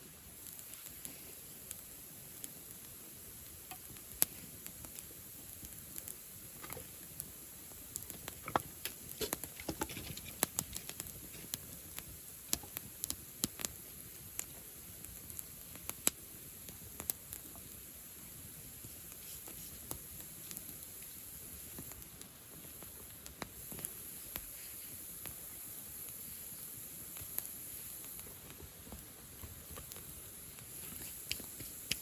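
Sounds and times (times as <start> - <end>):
bonfire crackling and popping: 0.0 - 32.0
faint steady hiss: 0.0 - 32.0.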